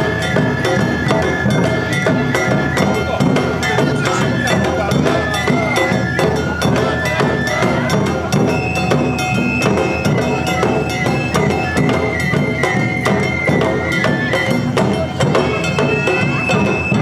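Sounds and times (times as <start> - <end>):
high flutes: 0.0 - 17.0
taiko drums: 0.0 - 17.0.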